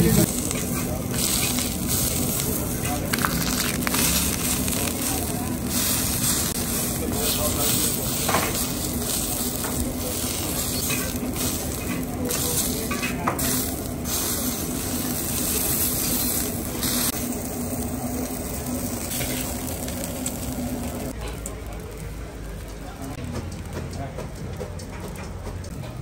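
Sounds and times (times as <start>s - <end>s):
patties sizzling on griddle: 0.0s - 23.2s.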